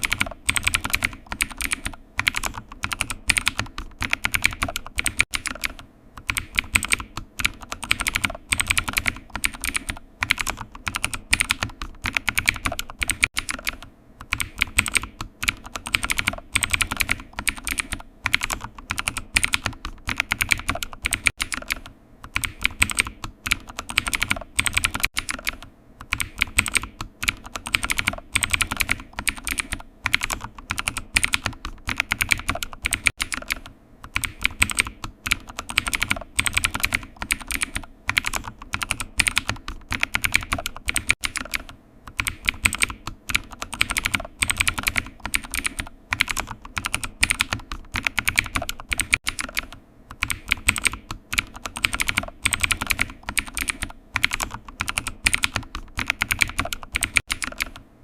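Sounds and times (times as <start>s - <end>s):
computer keyboard typing: 0.0s - 57.9s.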